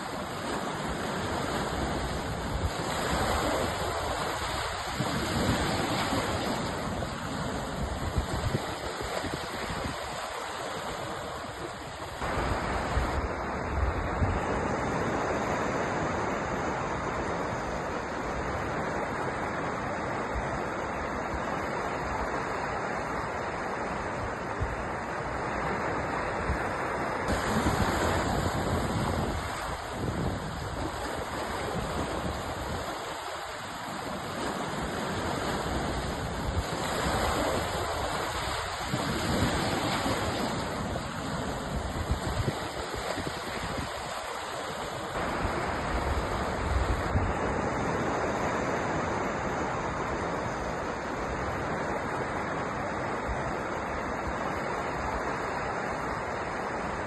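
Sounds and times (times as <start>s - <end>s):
waves breaking and washing: 0.0s - 57.0s.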